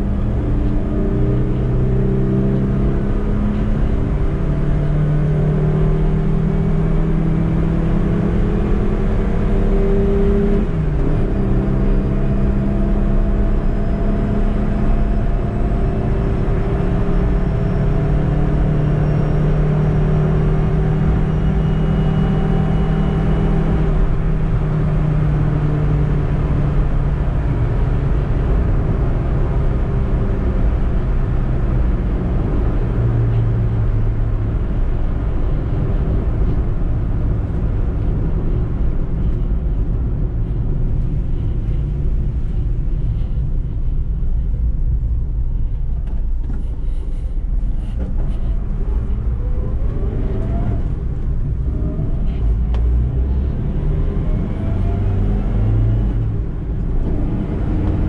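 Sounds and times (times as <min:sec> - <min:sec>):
low road rumble: 0:00.0 - 0:58.0
van engine running: 0:00.0 - 0:58.0.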